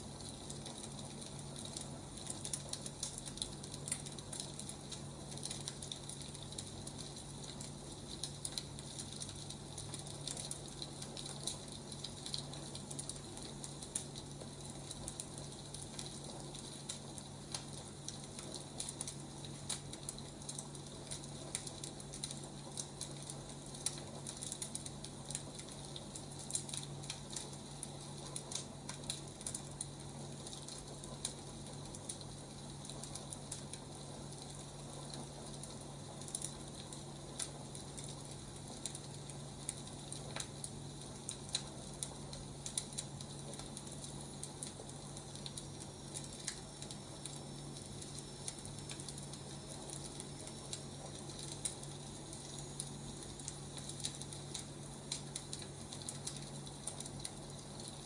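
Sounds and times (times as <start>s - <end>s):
fire crackling: 0.0s - 58.0s
steady hiss: 0.0s - 58.0s.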